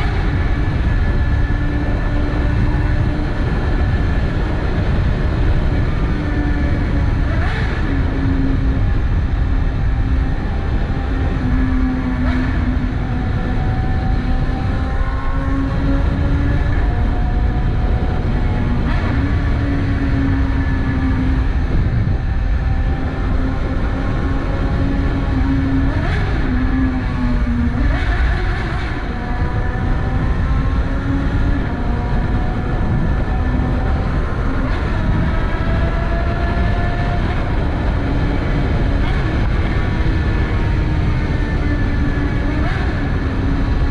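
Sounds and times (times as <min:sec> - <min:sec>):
low rush of noise: 0:00.0 - 0:43.9
low wind rumble: 0:00.0 - 0:43.9
motorcycle engine running: 0:00.0 - 0:43.9.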